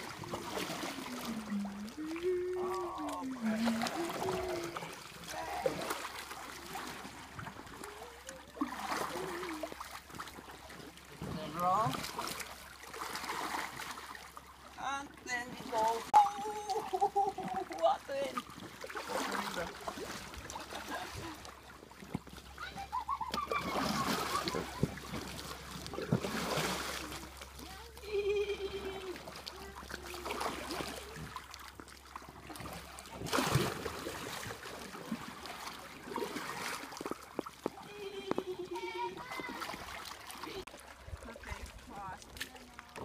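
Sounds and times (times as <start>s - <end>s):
water dripping off paddles: 0.0s - 28.2s, 29.1s - 43.0s
paddles splashing in water: 0.0s - 43.0s.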